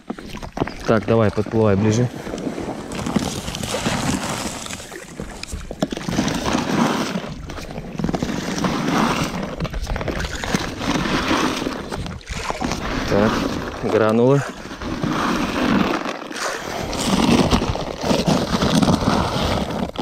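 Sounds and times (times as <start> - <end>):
water splashing around rowed boat: 0.0 - 20.0
wind rumbling on microphone: 0.0 - 20.0.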